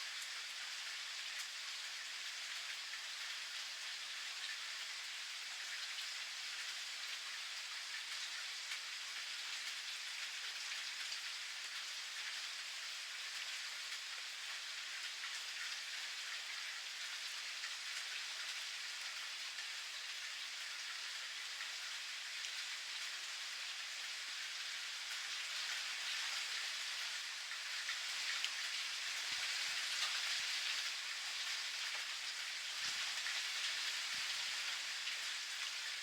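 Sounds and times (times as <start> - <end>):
rain patter: 0.0 - 36.0.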